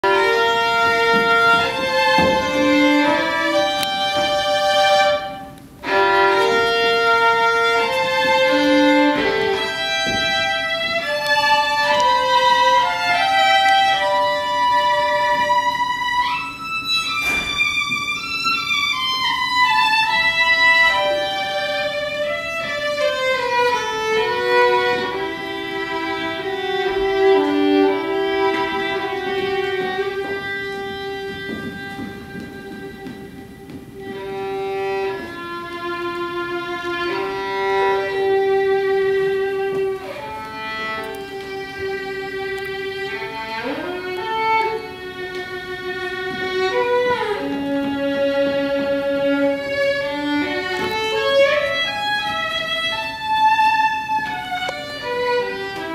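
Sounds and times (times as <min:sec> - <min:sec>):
solo violin melody: 0:00.0 - 0:55.9.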